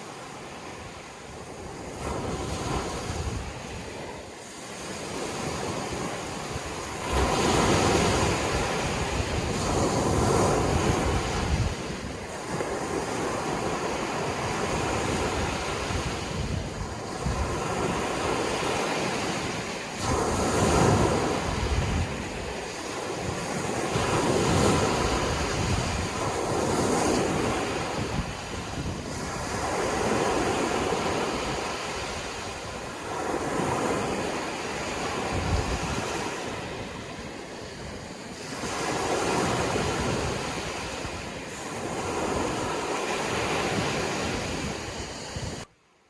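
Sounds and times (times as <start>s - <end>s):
sea waves breaking: 0.0s - 45.7s
wind rumble on microphone: 0.1s - 45.7s.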